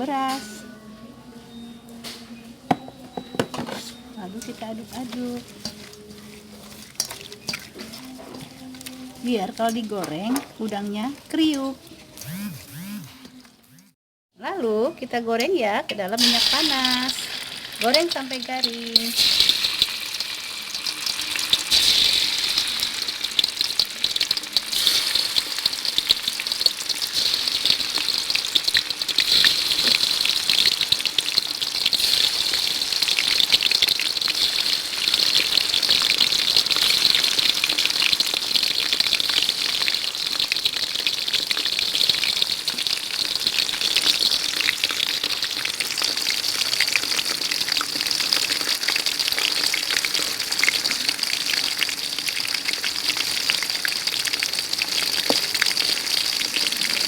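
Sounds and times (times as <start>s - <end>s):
shrimp sizzling in hot oil: 3.6s - 12.4s, 15.4s - 57.0s.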